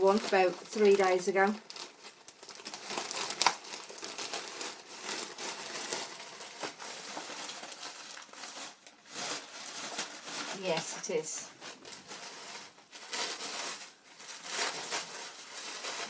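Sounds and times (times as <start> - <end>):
plastic bag crinkling and tearing: 0.0 - 16.0
sharp plastic crackle: 0.0 - 16.0.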